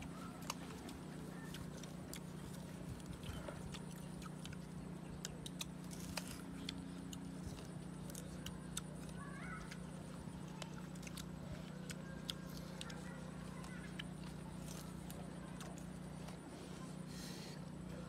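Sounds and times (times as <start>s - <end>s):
crunching and chewing fruit: 0.0s - 18.0s
steady low hum: 0.0s - 18.0s.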